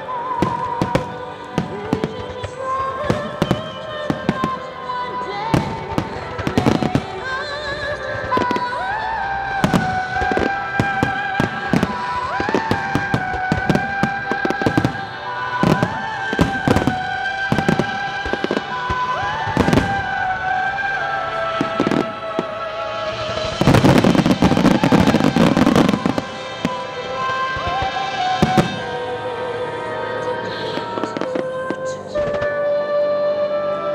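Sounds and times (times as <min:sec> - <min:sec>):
fireworks bursting with sharp bangs: 0:00.0 - 0:33.7
fireworks crackling: 0:00.0 - 0:33.9
music with long held notes: 0:00.0 - 0:33.9.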